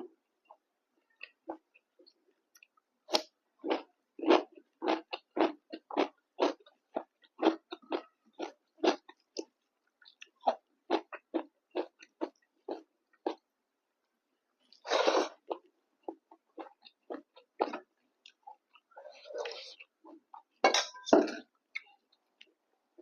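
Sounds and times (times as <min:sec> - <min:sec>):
person chewing food: 0:00.4 - 0:13.5, 0:14.6 - 0:20.6.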